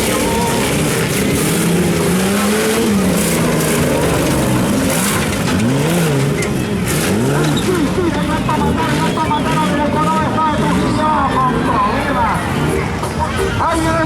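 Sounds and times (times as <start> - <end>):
off-road engines revving: 0.0 - 14.0.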